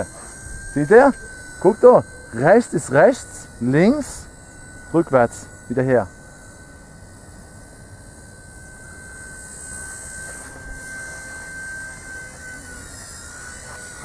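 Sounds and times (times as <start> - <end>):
toy helicopter motor whine: 0.0 - 14.0.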